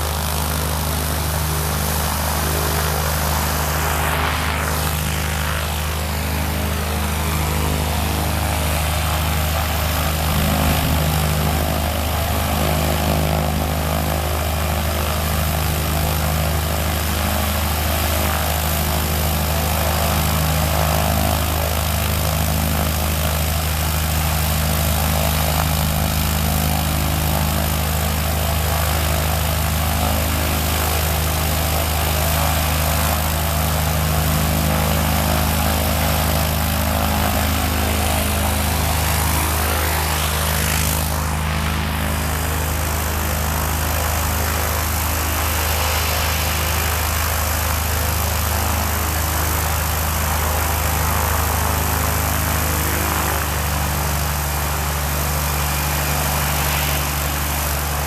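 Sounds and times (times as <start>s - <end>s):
propeller aircraft engine droning: 0.0s - 58.0s.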